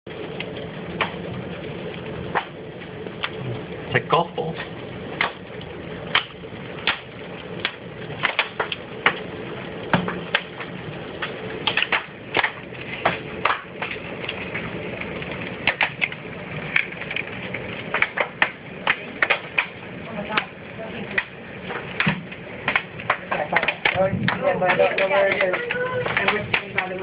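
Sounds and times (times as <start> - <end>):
hailstones cracking on hard surfaces: 0.1 - 27.0
steady hiss: 0.1 - 27.0.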